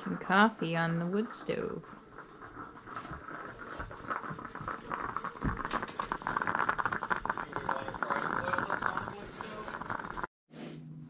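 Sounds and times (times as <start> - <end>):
wood stove crackling and popping: 0.0 - 10.3.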